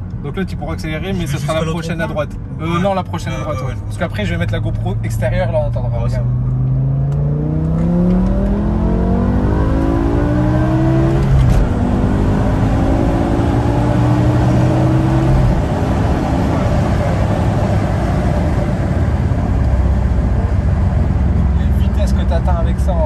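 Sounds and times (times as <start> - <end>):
road noise rumble: 0.0 - 23.0
car engine accelerating hard: 1.0 - 23.0.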